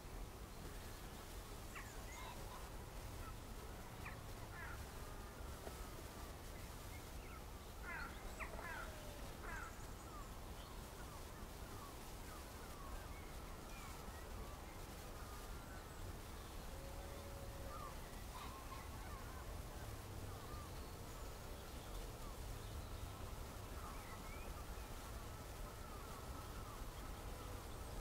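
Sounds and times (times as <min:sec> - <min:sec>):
birds chirping: 0:00.1 - 0:28.0.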